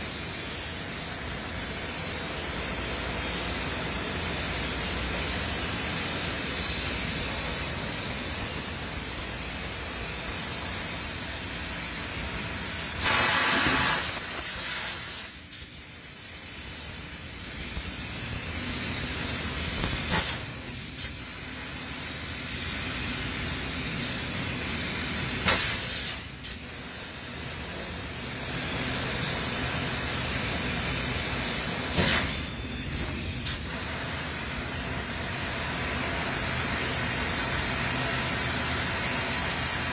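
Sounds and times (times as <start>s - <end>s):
factory machinery hissing: 0.0s - 39.9s.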